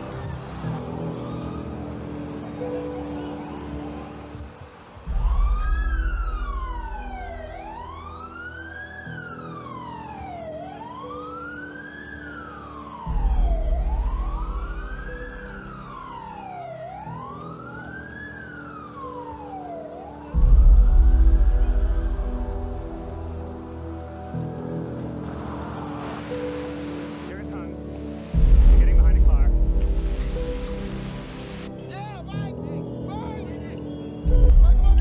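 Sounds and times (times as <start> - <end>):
emergency siren wailing: 0.0 - 31.8.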